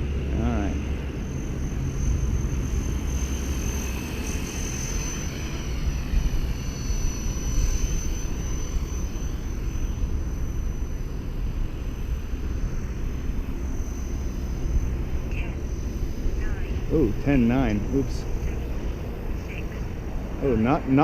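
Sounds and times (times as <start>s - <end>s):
model helicopter rotor whine: 0.0s - 21.0s.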